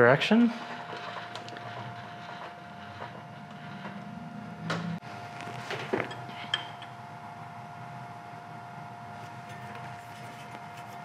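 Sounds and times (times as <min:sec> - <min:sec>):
milling machine hum and whine: 0:00.0 - 0:11.0.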